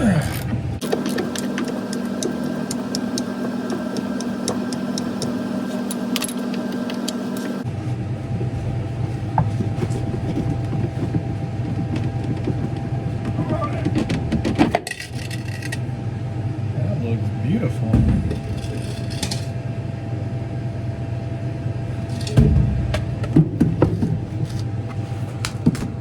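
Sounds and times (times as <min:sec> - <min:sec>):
power driver running: 0:00.0 - 0:26.0
steady low hum: 0:00.0 - 0:26.0.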